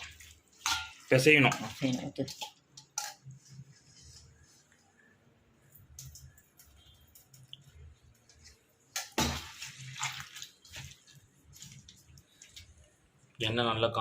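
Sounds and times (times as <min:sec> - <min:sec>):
wet squishing of kneaded dough: 0:00.0 - 0:13.5.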